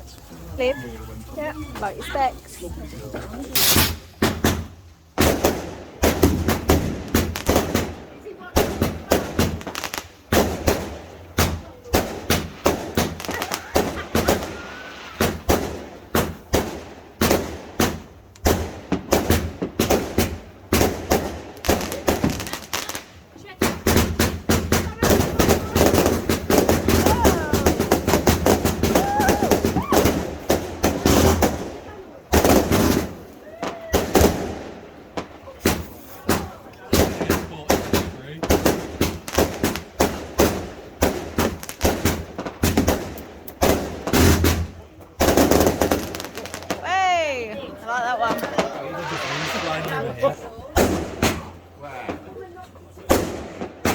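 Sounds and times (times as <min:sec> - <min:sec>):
fireworks exploding: 0:00.0 - 0:53.9.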